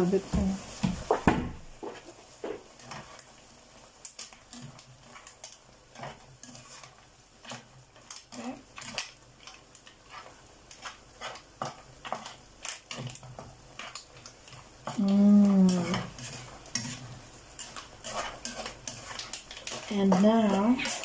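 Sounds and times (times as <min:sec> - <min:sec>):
light sizzle: 0:00.0 - 0:21.0
spatula scraping frying pan: 0:01.9 - 0:03.6, 0:04.2 - 0:21.0.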